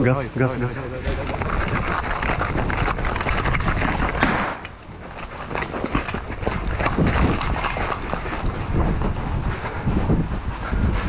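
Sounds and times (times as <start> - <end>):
hurried footsteps on rubble: 0.0 - 11.0.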